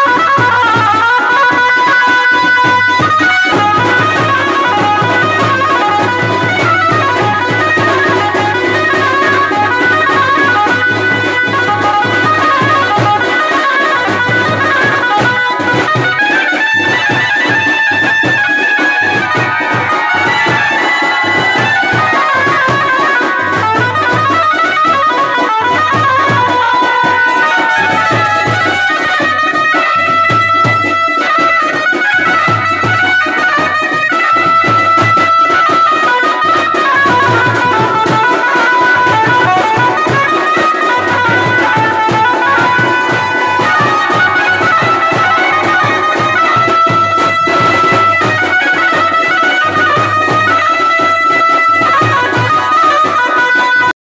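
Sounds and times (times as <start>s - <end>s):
steady drum beat: 0.0s - 53.9s
wind instrument wavering melody: 0.0s - 53.9s.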